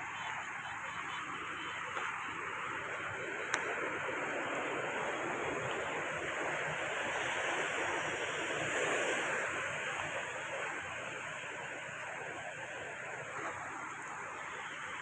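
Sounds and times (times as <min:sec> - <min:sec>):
sea waves washing onto shore: 0:00.0 - 0:15.0.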